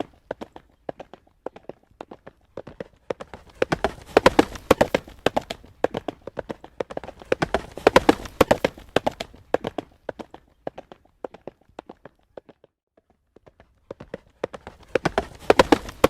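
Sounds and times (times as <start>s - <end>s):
horse hooves trotting on road: 0.0s - 16.0s.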